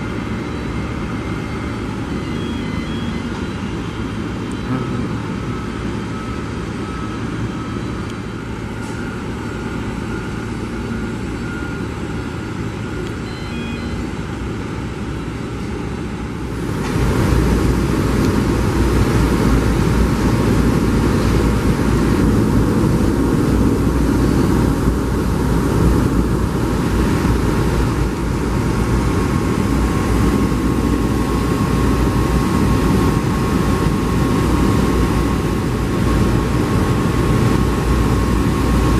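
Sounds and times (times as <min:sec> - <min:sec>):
faint steady whine: 0:00.0 - 0:38.9
jet engines idling and taxiing: 0:00.0 - 0:38.9.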